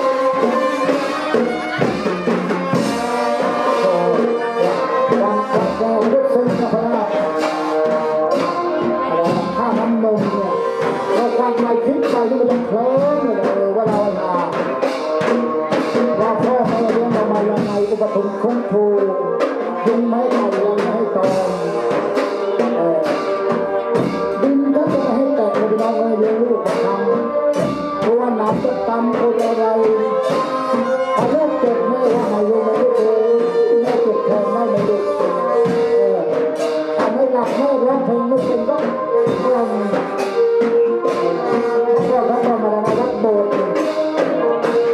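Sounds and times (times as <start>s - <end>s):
brass instruments playing: 0.0s - 44.9s
steady drum beat: 0.0s - 44.9s.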